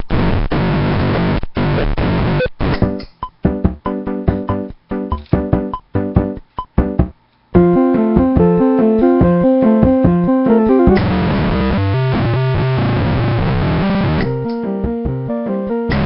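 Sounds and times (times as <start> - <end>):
fuzzy electronic keyboard notes: 0.8 - 16.0.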